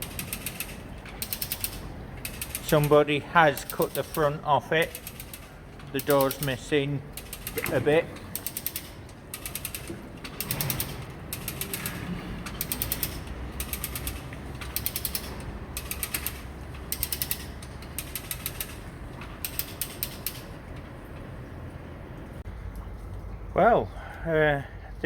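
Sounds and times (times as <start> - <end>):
hand winch ratchet clicking: 0.0 - 21.3.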